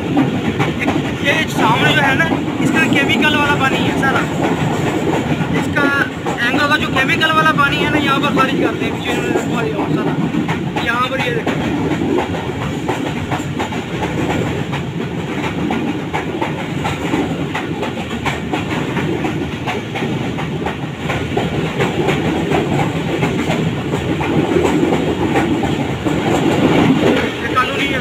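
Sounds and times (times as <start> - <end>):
train rumbling: 0.0 - 28.0
wheels clacking over rails: 0.0 - 28.0.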